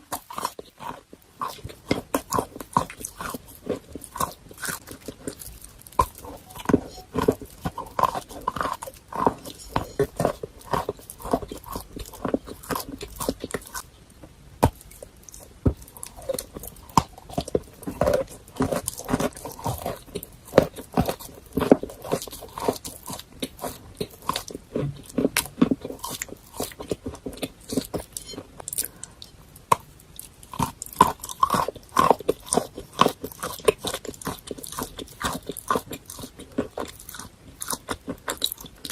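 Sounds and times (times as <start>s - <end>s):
chewing crunches and crackles: 0.0s - 38.9s.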